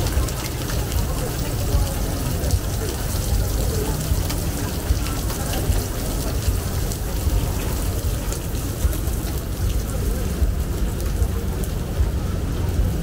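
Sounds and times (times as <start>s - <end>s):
rain falling: 0.0s - 13.0s
raindrop taps: 0.0s - 13.0s.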